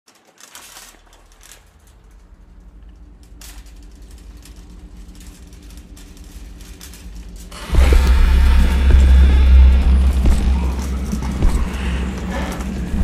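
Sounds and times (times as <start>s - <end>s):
low steady hum: 1.3s - 13.0s.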